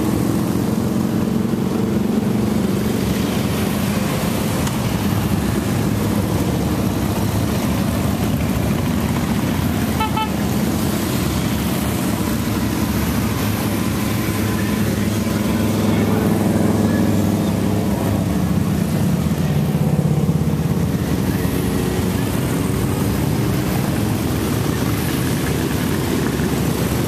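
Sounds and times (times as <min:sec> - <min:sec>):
motorcycles riding past: 0:00.0 - 0:27.0.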